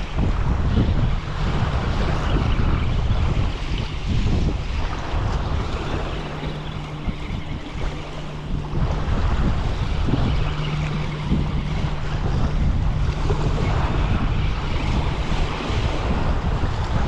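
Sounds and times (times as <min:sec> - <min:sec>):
low steady hum: 0:00.0 - 0:17.0
water lapping: 0:00.0 - 0:17.0
wind buffeting microphone: 0:00.0 - 0:17.0.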